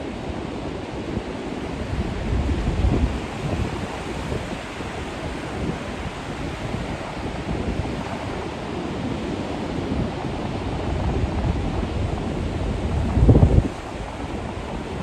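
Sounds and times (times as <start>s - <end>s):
surf washing on shore: 0.0s - 15.0s
wind blowing across microphone: 0.0s - 15.0s.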